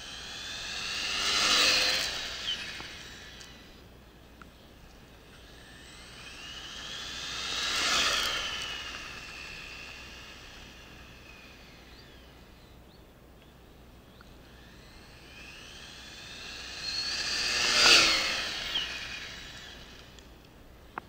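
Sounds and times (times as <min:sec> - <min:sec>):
rc car motor whine passing: 0:00.0 - 0:21.0.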